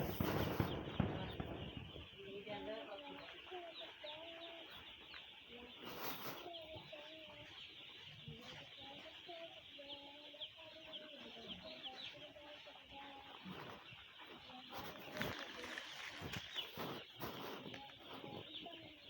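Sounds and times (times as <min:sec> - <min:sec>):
chickens clucking: 0:00.0 - 0:19.0
chicks peeping: 0:00.0 - 0:19.0.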